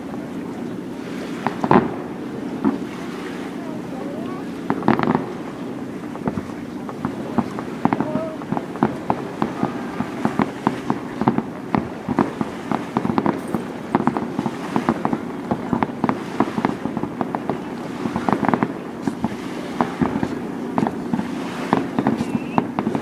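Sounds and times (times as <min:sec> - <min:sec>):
steady rumble: 0:00.0 - 0:23.0
fireworks bangs and pops: 0:01.4 - 0:02.9, 0:04.4 - 0:23.0.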